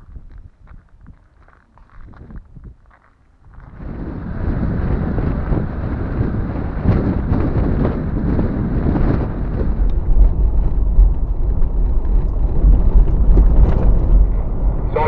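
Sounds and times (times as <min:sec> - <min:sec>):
vehicle rumble on dirt road: 0:00.0 - 0:15.0
wind buffeting on microphone: 0:00.0 - 0:15.0.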